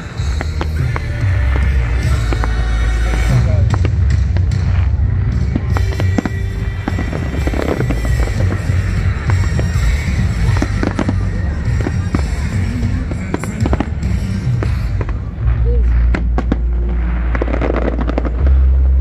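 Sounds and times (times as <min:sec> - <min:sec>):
fireworks bangs and crackling: 0:00.0 - 0:19.0
loud music: 0:00.0 - 0:19.0.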